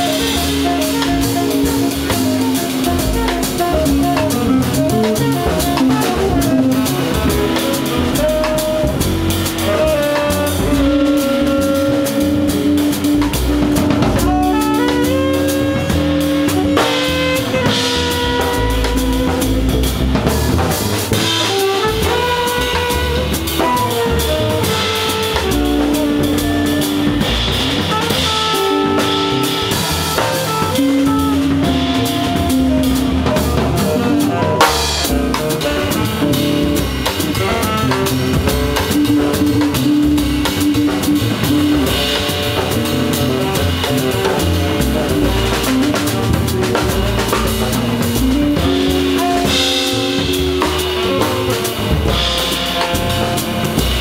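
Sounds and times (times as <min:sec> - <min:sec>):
double bass: 0:00.0 - 0:54.0
drum kit: 0:00.0 - 0:54.0
quick melodic notes: 0:00.0 - 0:54.0.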